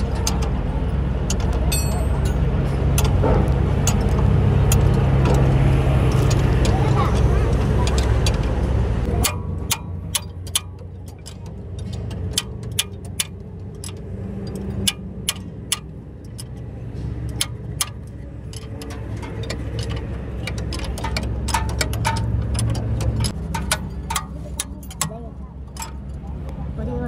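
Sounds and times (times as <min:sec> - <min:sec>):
metallic clicks of spanners: 0:00.0 - 0:26.5
steady low rumble: 0:00.0 - 0:27.0.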